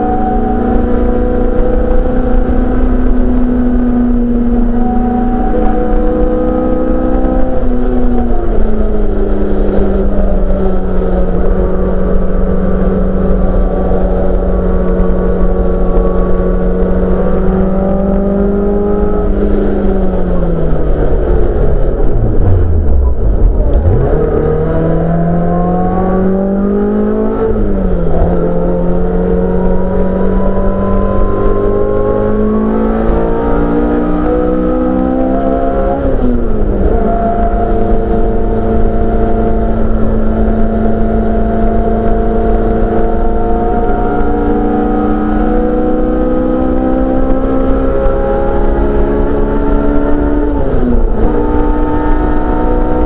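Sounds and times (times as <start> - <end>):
race car engine at high revs: 0.0 - 53.0.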